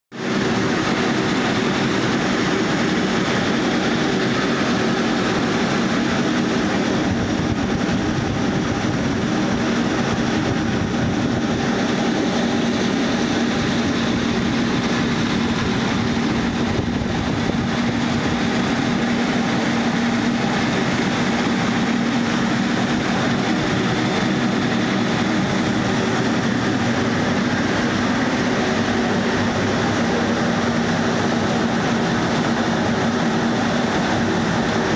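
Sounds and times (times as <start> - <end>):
pulp beater machine churning: 0.2 - 34.9.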